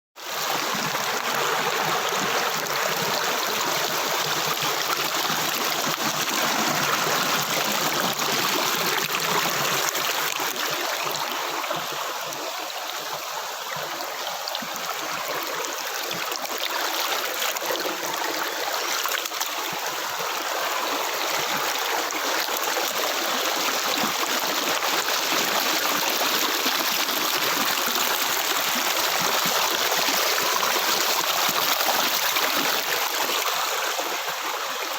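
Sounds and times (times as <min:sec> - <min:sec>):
river water flowing: 0:00.2 - 0:34.9.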